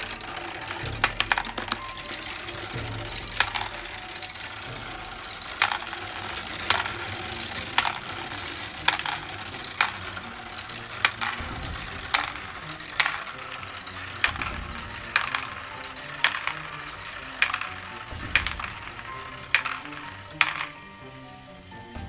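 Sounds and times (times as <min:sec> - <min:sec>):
plastic clacks: 0:00.0 - 0:21.0
small electric motor whirring: 0:00.0 - 0:22.0.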